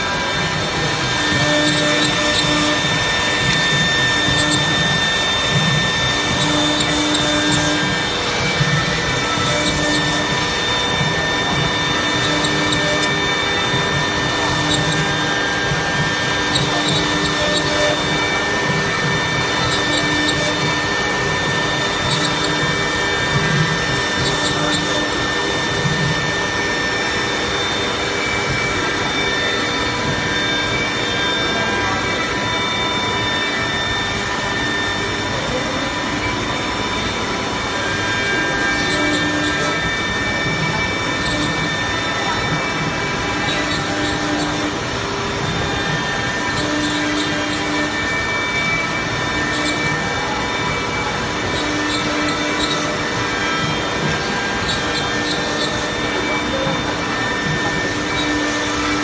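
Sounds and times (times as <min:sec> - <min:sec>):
router whining: 0:00.0 - 0:59.0.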